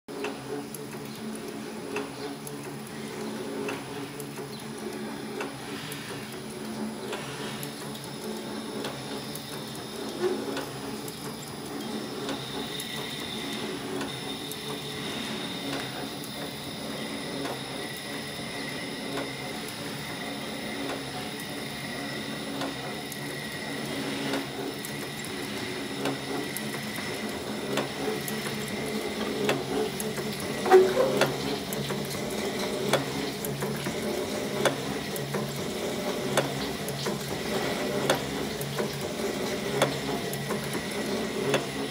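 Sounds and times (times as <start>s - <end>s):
machine humming with whine: 0.1s - 41.9s.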